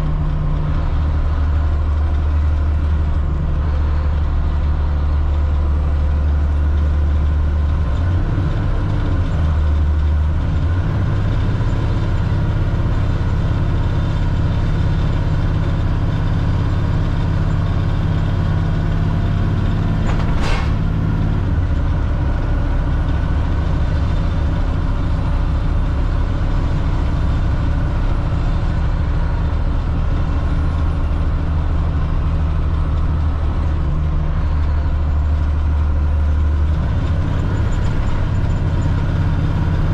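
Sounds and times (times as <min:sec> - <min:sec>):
diesel bus engine droning: 0:00.0 - 0:39.9.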